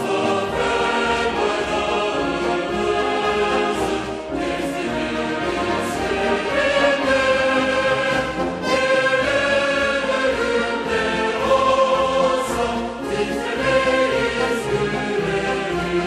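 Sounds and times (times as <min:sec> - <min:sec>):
choir singing sustained chords: 0:00.0 - 0:16.0
orchestral backing: 0:00.0 - 0:16.0.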